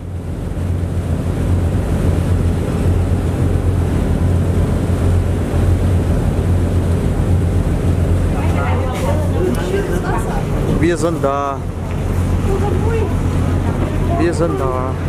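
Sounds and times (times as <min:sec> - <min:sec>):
ferry engine droning: 0:00.0 - 0:15.0
sea wash: 0:00.0 - 0:15.0.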